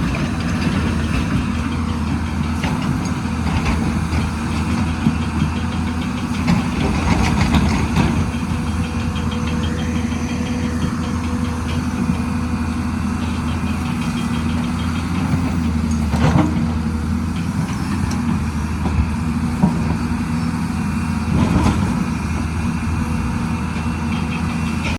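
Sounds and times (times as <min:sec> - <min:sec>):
excavator engine running: 0:00.0 - 0:24.9.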